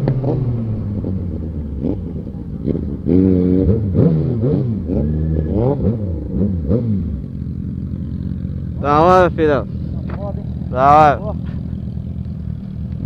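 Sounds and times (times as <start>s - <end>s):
exhaust cracks: 0.0s - 13.0s
motorcycle engines revving: 0.0s - 13.0s.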